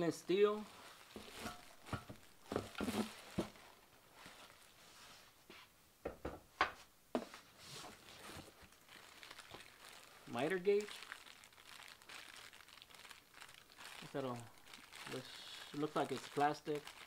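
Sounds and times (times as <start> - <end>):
plastic wrap rustling: 0.2 - 5.4, 7.5 - 17.0.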